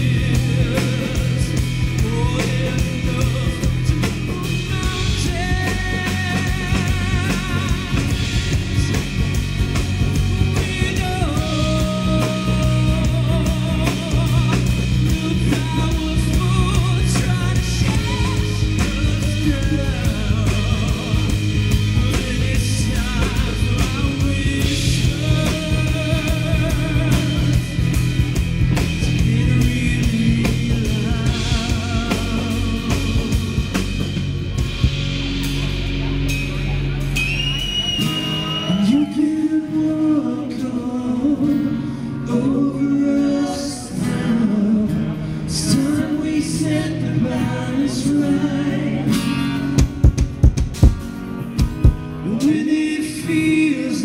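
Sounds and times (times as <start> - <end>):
rock song with drums and guitar: 0.0 - 54.0.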